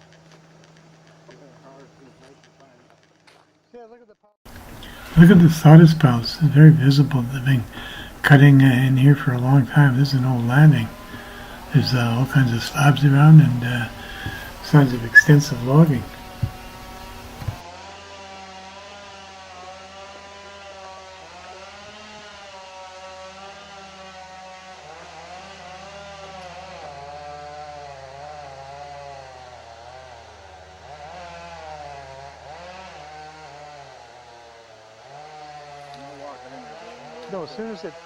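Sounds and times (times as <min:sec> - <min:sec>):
distant chainsaw cutting: 0:00.0 - 0:03.8, 0:04.5 - 0:38.0.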